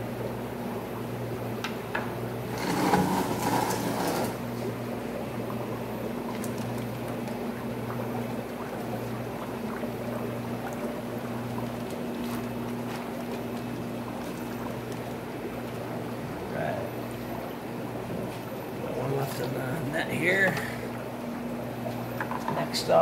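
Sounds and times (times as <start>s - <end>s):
aquarium pumps humming: 0.0s - 23.0s
water running into tanks: 0.0s - 23.0s
water pouring and splashing: 2.5s - 23.0s.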